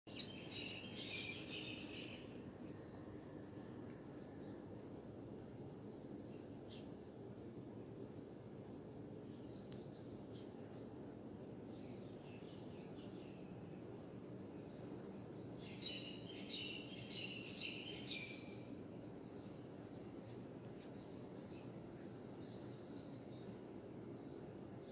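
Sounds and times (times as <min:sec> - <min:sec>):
small birds chirping: 0:00.1 - 0:04.8, 0:05.8 - 0:24.9
low background noise: 0:00.1 - 0:24.9.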